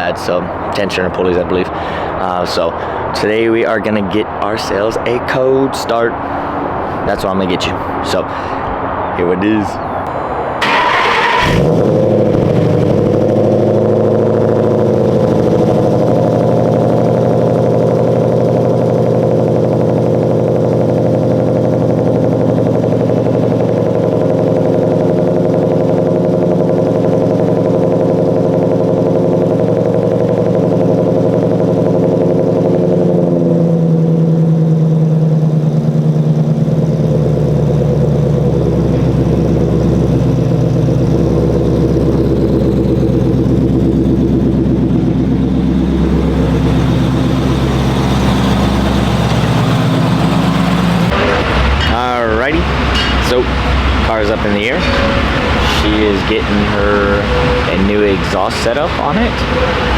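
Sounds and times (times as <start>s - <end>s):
car engine starting and idling: 0.0s - 59.9s.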